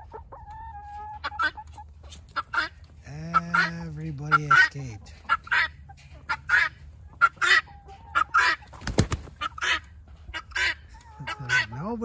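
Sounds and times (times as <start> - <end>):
chickens squawking: 0.0 - 12.0.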